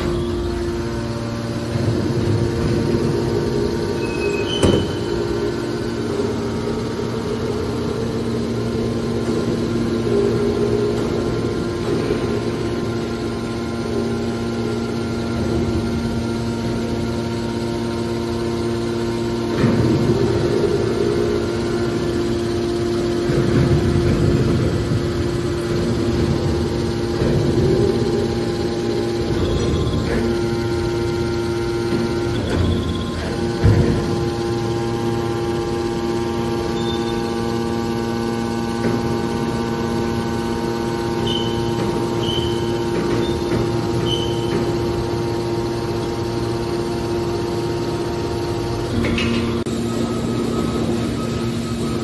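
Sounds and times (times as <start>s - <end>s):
hydraulic pump motor humming: 0.0s - 52.0s.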